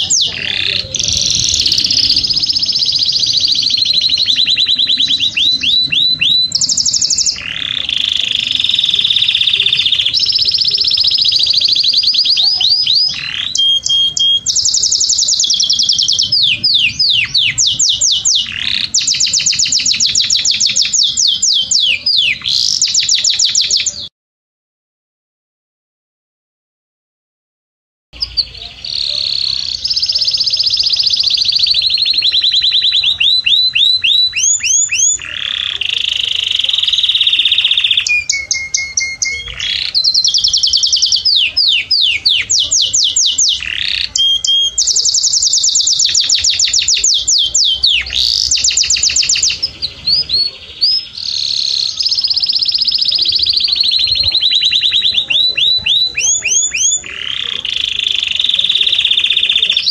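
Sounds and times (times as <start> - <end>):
canary singing trills: 0.0 - 24.1, 28.2 - 59.9.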